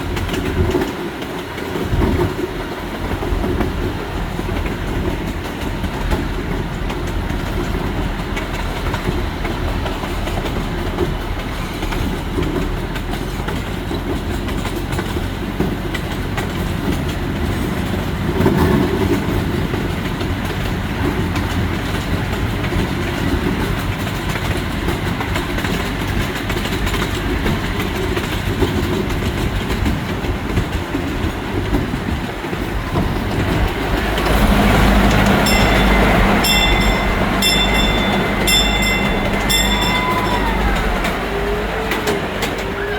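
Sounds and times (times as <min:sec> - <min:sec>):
miniature train rolling rumble: 0:00.0 - 0:42.9
wheels clattering over rail joints: 0:00.0 - 0:42.9.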